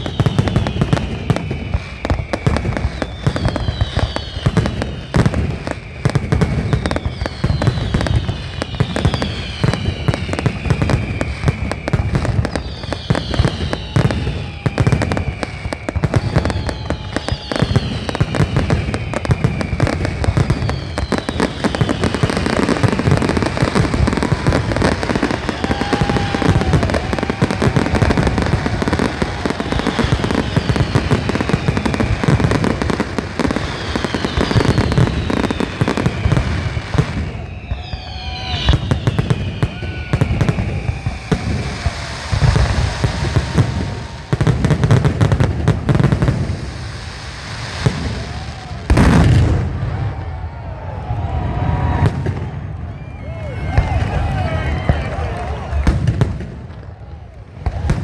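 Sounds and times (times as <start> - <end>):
falling firework whistles: 0.0 - 58.0
fireworks bangs and crackling: 0.0 - 58.0.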